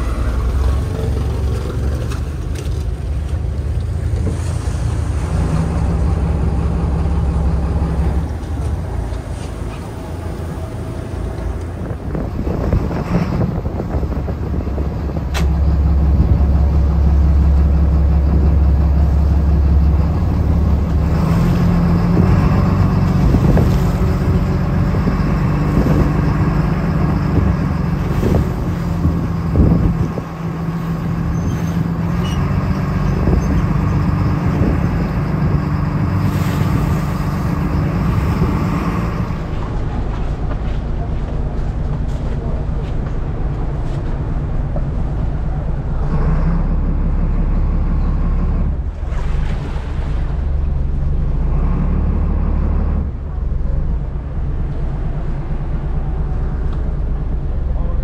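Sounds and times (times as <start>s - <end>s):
water splashing against hull: 0.0s - 45.8s, 48.7s - 51.7s
boat engine running: 0.0s - 58.0s.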